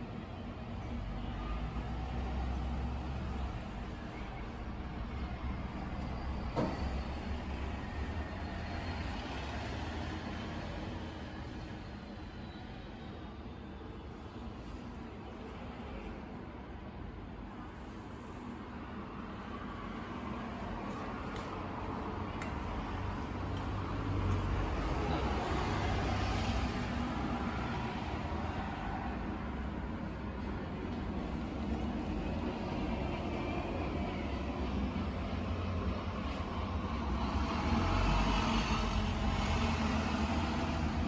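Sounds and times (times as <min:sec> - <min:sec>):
background noise: 0:00.0 - 0:41.0.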